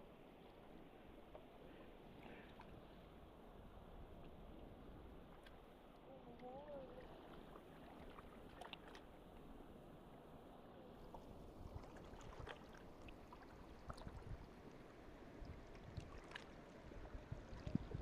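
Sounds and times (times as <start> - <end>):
faint low rumble: 0.0 - 18.0.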